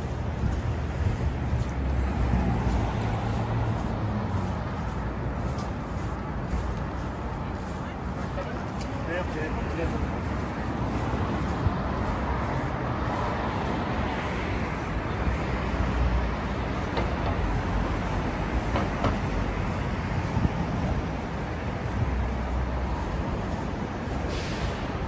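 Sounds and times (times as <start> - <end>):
rumble of passing vehicles: 0.0 - 25.0.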